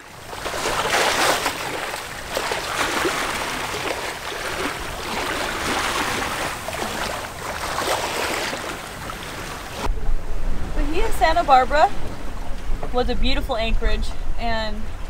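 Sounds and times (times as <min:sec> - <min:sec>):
water splashing along boat hull: 0:00.0 - 0:15.0.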